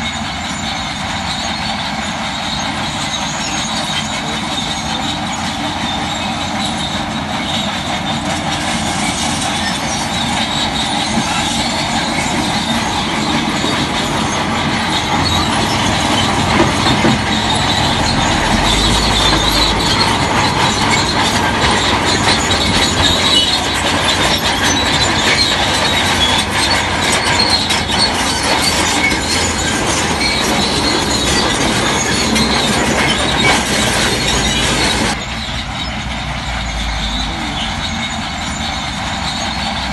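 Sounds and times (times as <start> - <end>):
crawler tracks squealing and clattering: 0.0 - 39.9
diesel engine running: 0.0 - 39.9.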